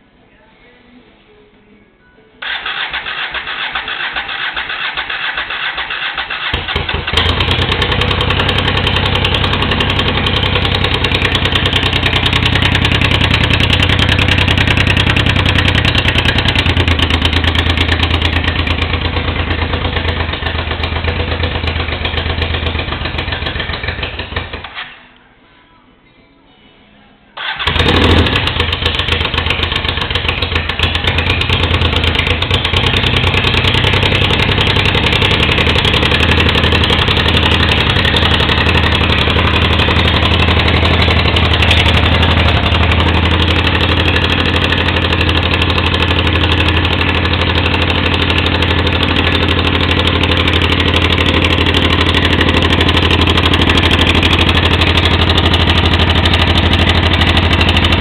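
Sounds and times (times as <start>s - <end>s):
motorcycle engine idling: 2.4s - 24.8s, 27.4s - 58.0s.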